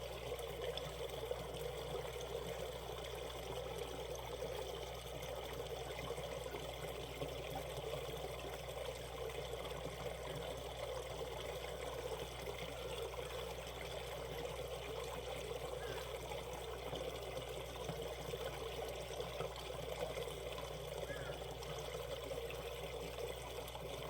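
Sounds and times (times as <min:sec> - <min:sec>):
stream babbling over rocks: 0:00.0 - 0:24.0.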